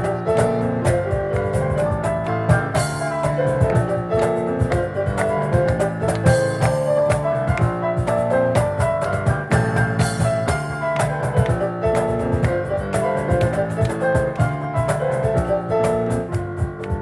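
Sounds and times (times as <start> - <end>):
cajon strikes: 0.0 - 17.0
piano notes: 0.0 - 17.0.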